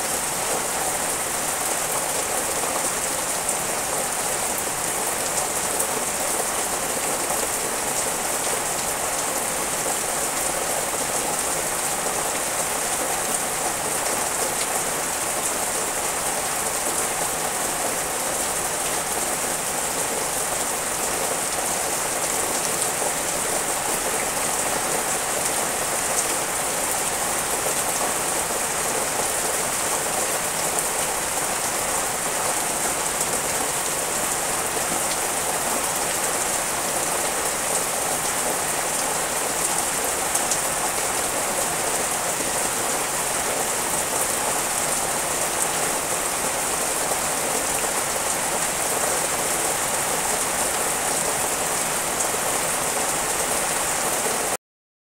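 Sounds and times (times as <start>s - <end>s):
rain falling on leaves: 0.0s - 54.6s.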